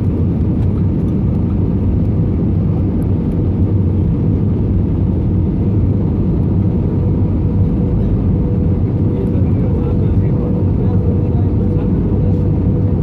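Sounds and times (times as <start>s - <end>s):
jet engines and airflow rushing: 0.0s - 13.0s.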